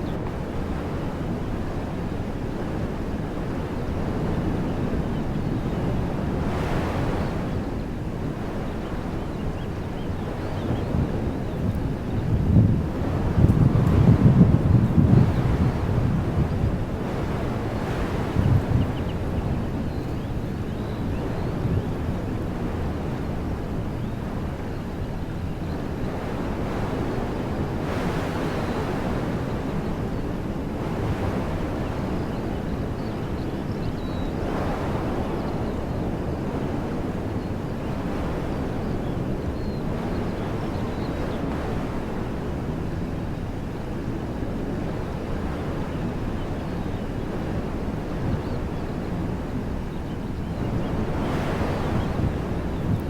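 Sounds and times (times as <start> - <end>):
wind blowing through trees: 0.0 - 53.0.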